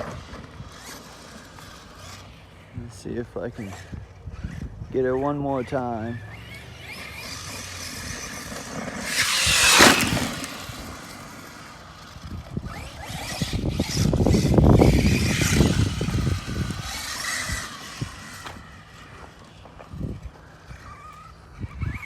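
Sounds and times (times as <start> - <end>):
electric motor whining: 0.0 - 22.0
tyres churning dirt: 0.0 - 22.0.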